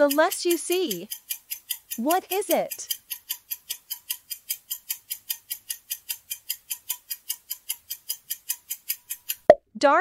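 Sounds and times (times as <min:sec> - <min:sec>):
clock ticking: 0:00.0 - 0:09.6.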